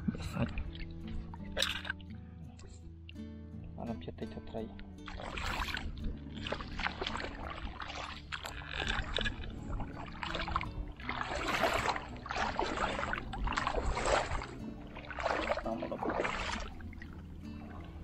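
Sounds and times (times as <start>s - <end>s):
shallow water splashing: 0.0s - 2.1s, 4.5s - 18.0s.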